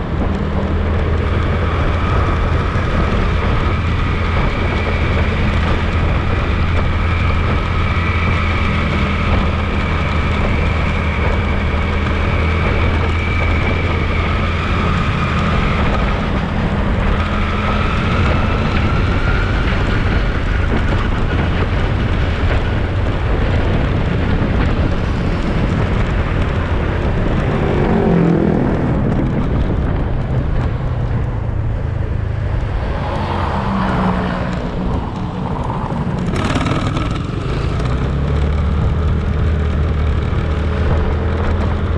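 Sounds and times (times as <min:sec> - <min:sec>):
motorcycle engine running: 0:00.0 - 0:41.9
road and wind noise: 0:00.0 - 0:41.9.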